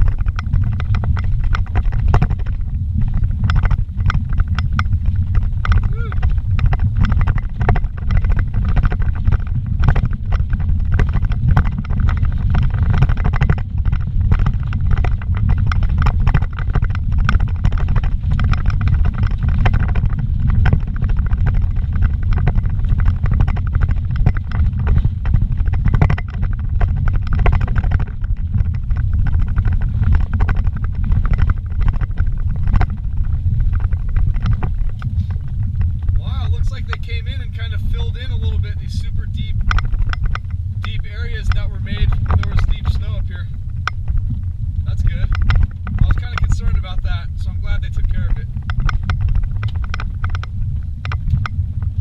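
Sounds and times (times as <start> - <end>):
car cabin rattling and knocking: 0.0 - 51.3
car rumbling over dirt track: 0.0 - 52.0.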